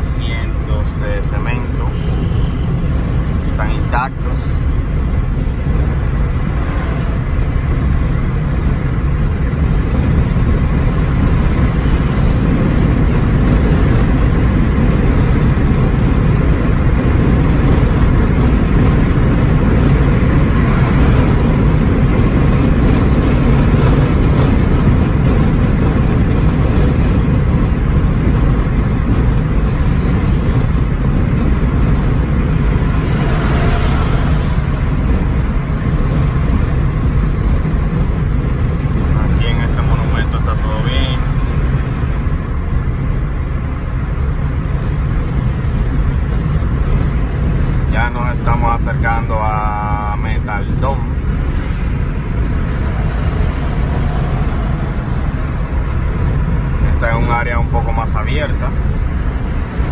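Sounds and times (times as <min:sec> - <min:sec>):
car cabin driving rumble: 0:00.0 - 0:59.9.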